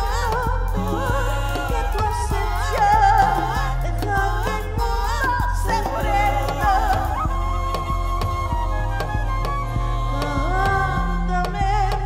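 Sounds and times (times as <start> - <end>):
backing track with deep bass: 0.0 - 12.0
woman singing into a microphone: 0.0 - 12.0.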